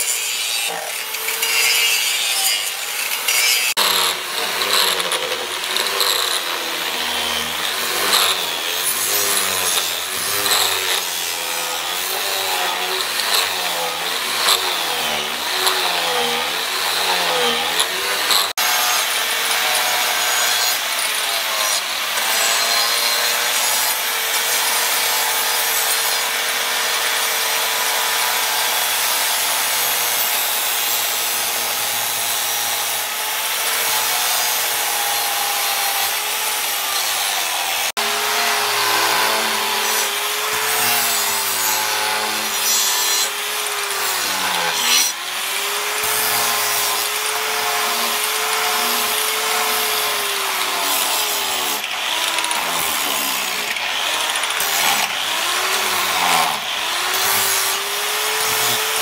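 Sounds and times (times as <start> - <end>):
angle grinder grinding steel: 0.0 - 59.0.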